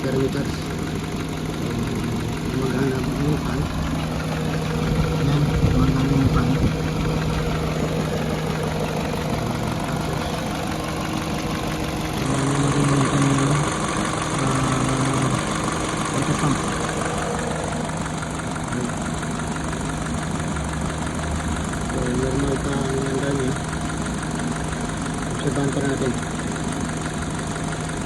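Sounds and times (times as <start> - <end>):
car engine idling: 0.0 - 28.0
radiator fan running: 0.0 - 28.0.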